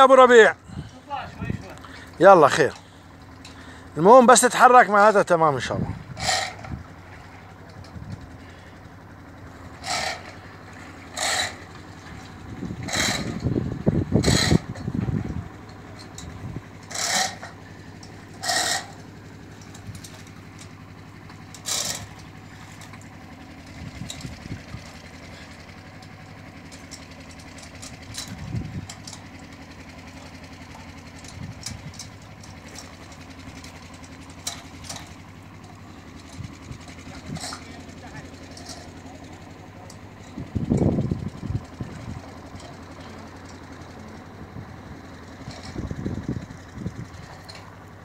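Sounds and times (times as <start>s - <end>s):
small engine humming: 0.0s - 4.5s, 5.2s - 48.0s.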